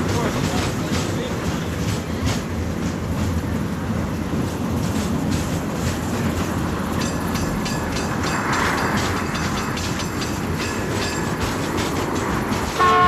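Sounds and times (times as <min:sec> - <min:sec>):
wheels clicking over rail joints: 0:00.0 - 0:03.7, 0:04.3 - 0:13.0
train rumbling on rails: 0:00.0 - 0:13.0.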